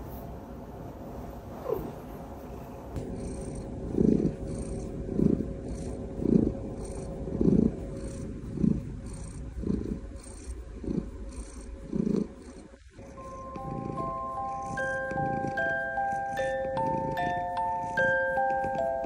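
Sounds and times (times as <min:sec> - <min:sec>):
cat purring: 0:01.0 - 0:19.0.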